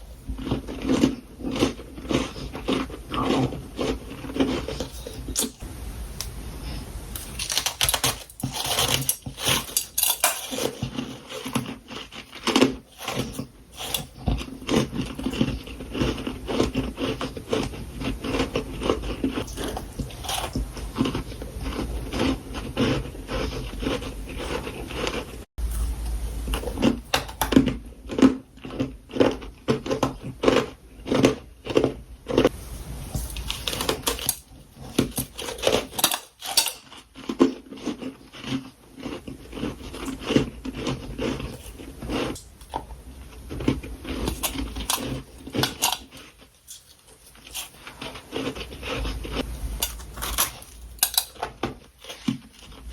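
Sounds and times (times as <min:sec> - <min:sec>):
crunching and chewing frost: 0:00.0 - 0:52.9.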